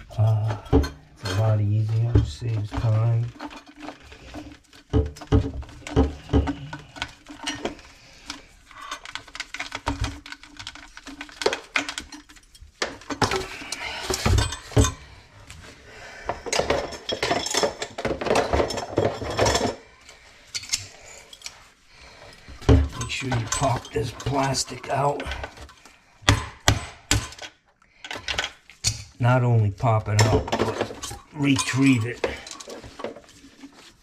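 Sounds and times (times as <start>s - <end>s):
tools clinking and clattering: 0.0s - 15.2s, 16.2s - 29.2s, 29.8s - 34.0s
rustling and scraping: 0.0s - 26.2s, 29.8s - 34.0s.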